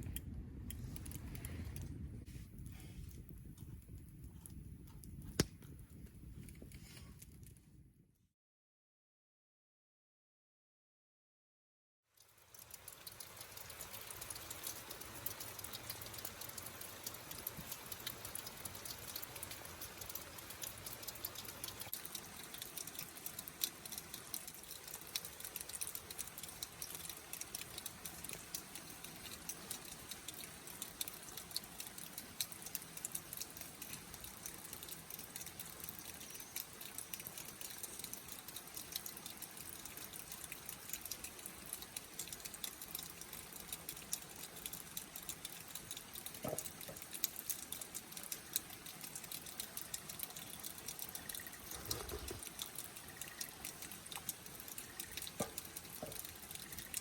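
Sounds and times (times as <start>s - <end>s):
campfire crackling: 0.0s - 7.6s, 12.2s - 57.0s.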